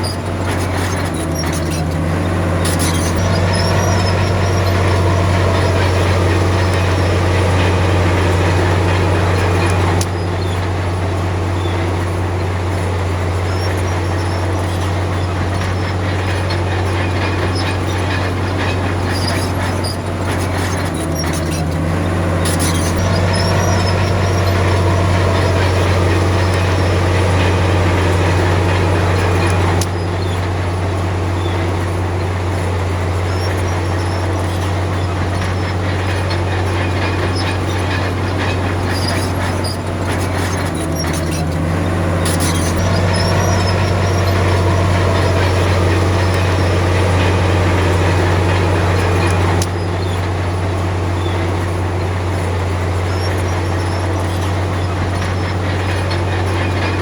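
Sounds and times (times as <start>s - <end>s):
metallic clanks: 0.0s - 10.8s, 13.6s - 30.6s, 31.4s - 50.4s
bulldozer diesel engine humming: 0.0s - 57.0s.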